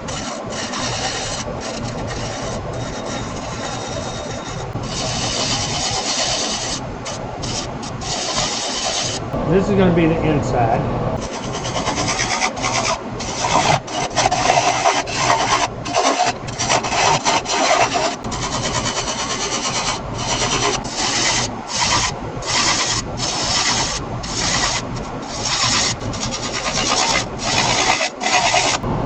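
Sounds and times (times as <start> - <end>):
lathe tool shaving wood: 0.0 - 10.6, 11.2 - 29.0.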